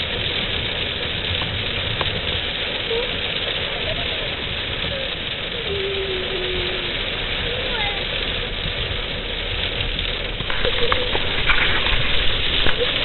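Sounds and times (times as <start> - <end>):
heavy rain on a car roof: 0.0 - 13.0.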